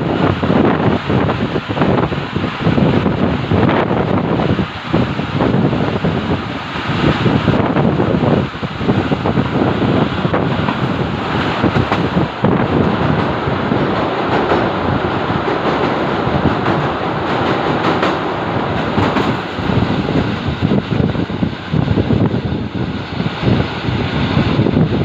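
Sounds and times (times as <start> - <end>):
train rumbling on rails: 0.0 - 25.0
wind buffeting microphone: 0.0 - 25.0.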